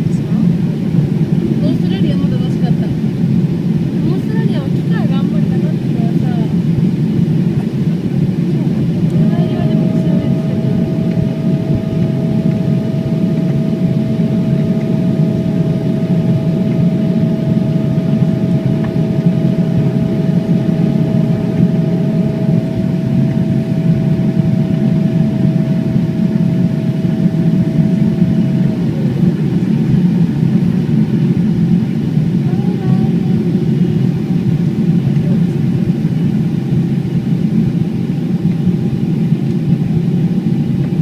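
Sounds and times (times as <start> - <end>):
jet airliner rumble and whine: 0.0 - 41.0.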